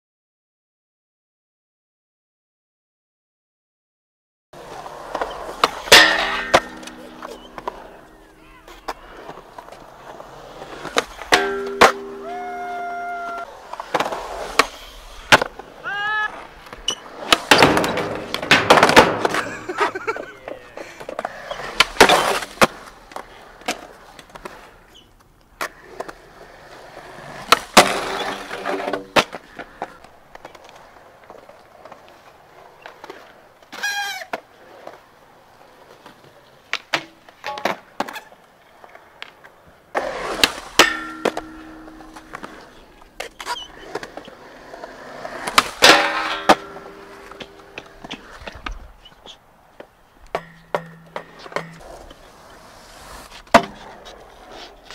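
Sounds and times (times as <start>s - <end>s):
skateboard clacks popping and landing: 4.6s - 24.6s, 25.2s - 32.2s, 35.9s - 52.4s, 53.3s - 54.9s
skateboards rolling on concrete: 4.6s - 54.9s.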